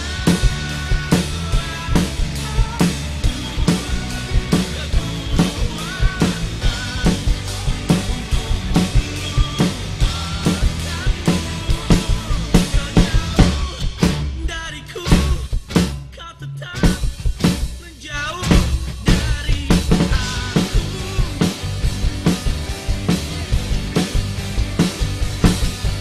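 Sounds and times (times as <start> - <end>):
acoustic drum kit playing: 0.0 - 26.0
pop-rock backing track: 0.0 - 26.0.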